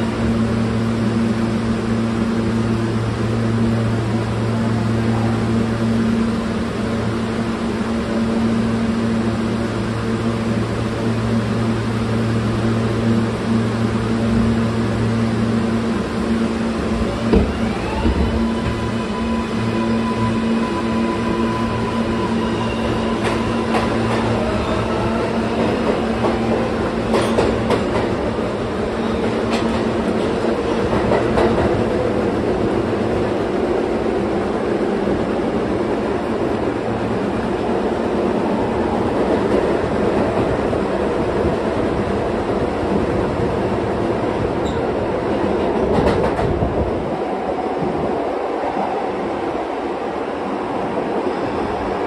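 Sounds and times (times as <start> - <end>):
subway propulsion whine: 0.0 - 52.0
wheels rumbling on track: 0.0 - 52.0.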